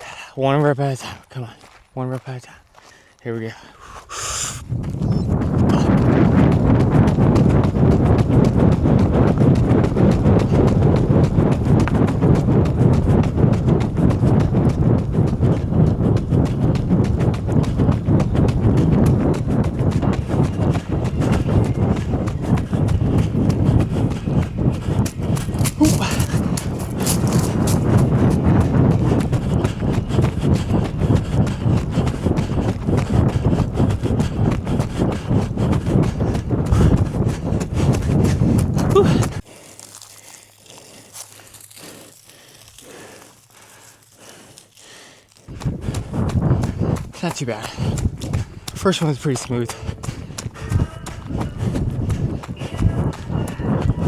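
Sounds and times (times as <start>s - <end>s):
hard breathing: 0.0s - 0.4s, 2.4s - 54.0s
running footfalls: 0.5s - 54.0s.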